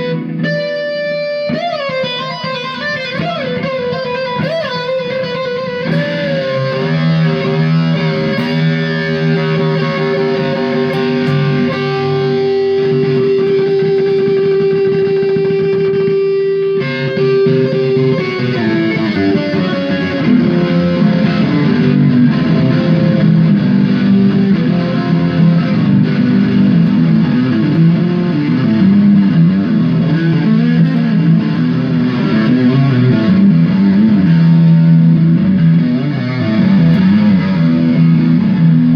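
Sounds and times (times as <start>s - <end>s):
distorted electric guitar solo: 0.0s - 38.9s.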